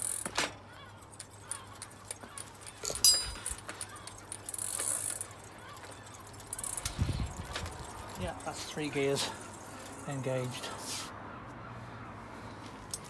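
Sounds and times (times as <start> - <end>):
metallic drivetrain clicks: 0.0 - 10.6
bicycle wheel and chain running: 0.0 - 11.0.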